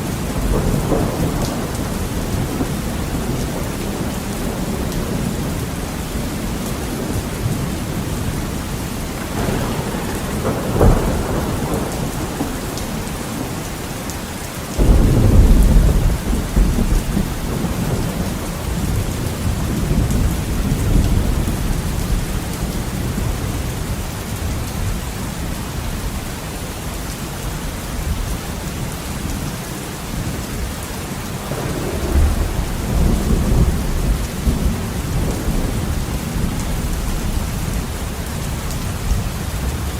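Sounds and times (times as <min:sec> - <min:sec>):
thunder rumbling and cracking: 0:00.0 - 0:26.2, 0:29.0 - 0:39.9
heavy rain on a window: 0:00.0 - 0:39.9.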